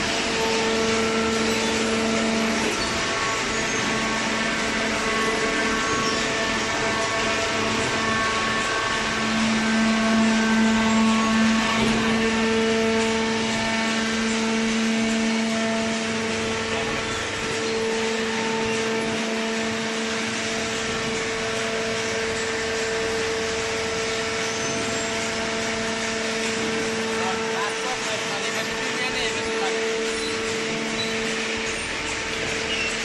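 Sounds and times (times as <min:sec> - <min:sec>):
baler machine humming: 0:00.0 - 0:33.0.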